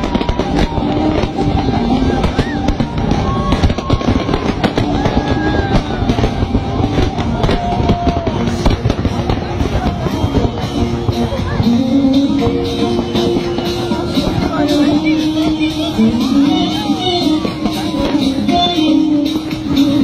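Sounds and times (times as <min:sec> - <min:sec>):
fireworks bangs and crackles: 0:00.0 - 0:20.0
music playing: 0:00.0 - 0:20.0.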